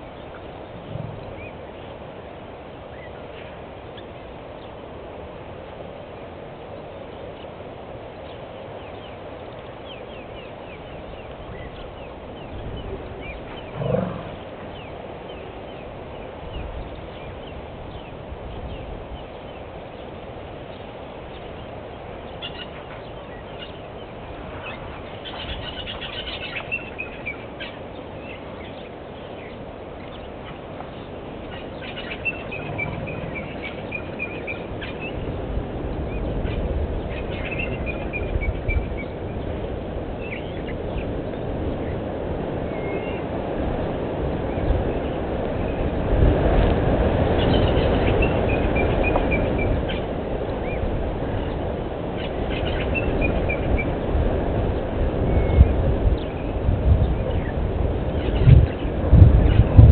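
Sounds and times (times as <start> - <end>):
birds chirping: 0.0 - 5.0, 5.6 - 46.0, 47.2 - 59.9.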